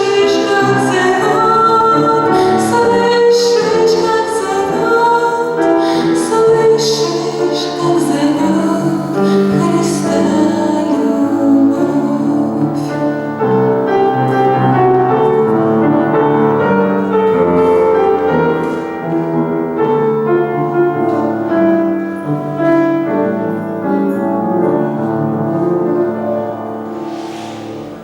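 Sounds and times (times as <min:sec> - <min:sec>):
piano playing sustained chords: 0:00.0 - 0:28.0.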